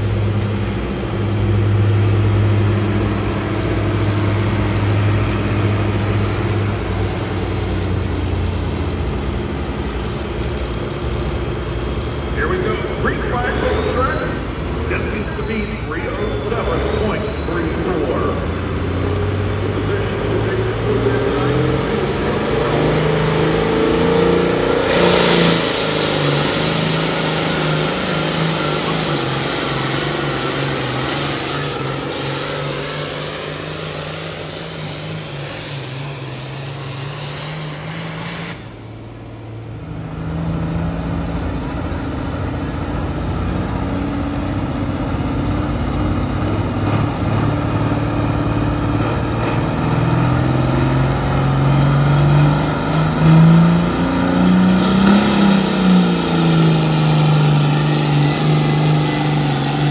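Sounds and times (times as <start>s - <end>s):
tractor engines running hard: 0.0s - 59.9s.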